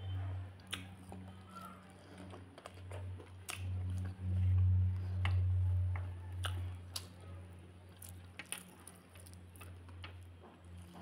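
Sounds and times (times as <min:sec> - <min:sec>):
low hum: 0:00.0 - 0:11.0
person chewing food: 0:00.6 - 0:11.0.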